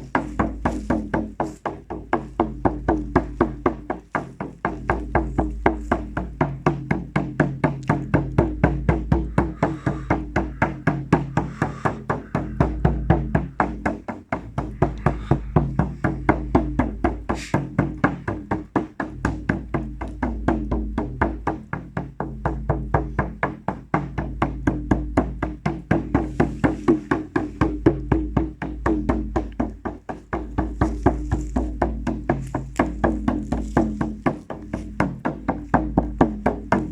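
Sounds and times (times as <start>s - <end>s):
fast drumbeat: 0.0s - 36.9s.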